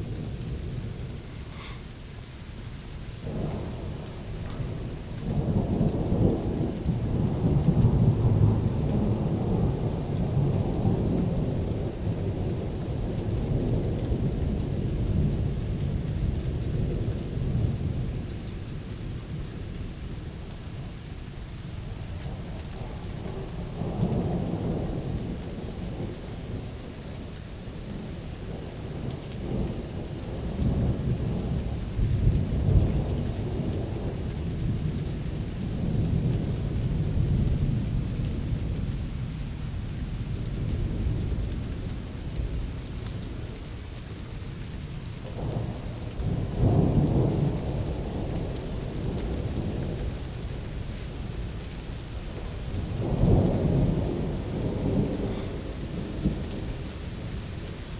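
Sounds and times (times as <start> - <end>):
heavy rain hissing: 0.0 - 57.9
thunder rumbling: 3.2 - 18.4, 22.2 - 57.8.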